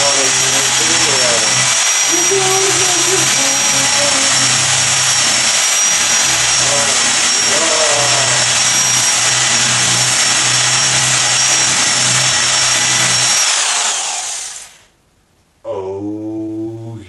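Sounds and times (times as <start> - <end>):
electric drill whining: 0.0 - 14.9.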